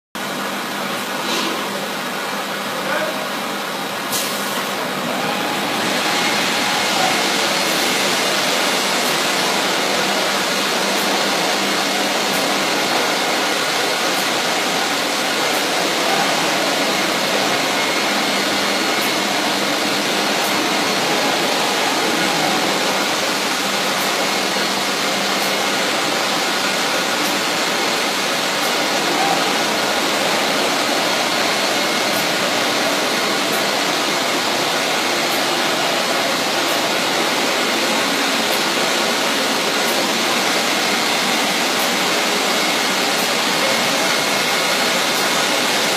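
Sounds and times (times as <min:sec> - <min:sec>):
router machine rushing: 0:05.0 - 0:45.9.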